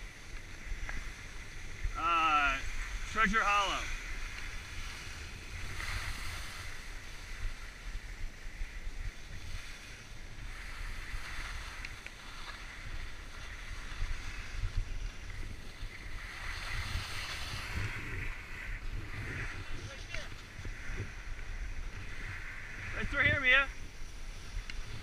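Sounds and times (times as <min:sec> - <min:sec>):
skis sliding over snow: 0:00.0 - 0:25.0
wind buffeting microphone: 0:00.0 - 0:25.0.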